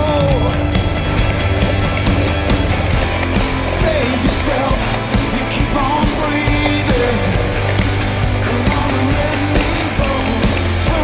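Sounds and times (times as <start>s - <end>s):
rock music with drum beat: 0.0s - 11.0s.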